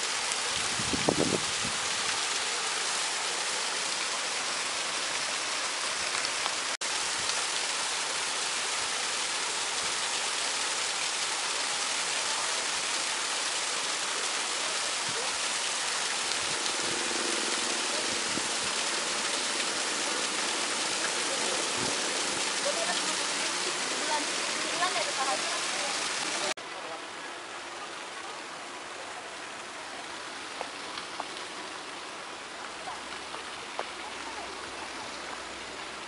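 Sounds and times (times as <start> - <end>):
small waterfall splashing into pond: 0.0 - 36.0.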